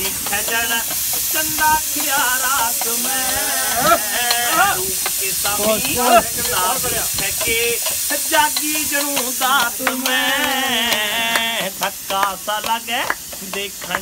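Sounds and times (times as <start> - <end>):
people talking: 0.0 - 14.0
pressure cooker hissing: 0.0 - 14.0.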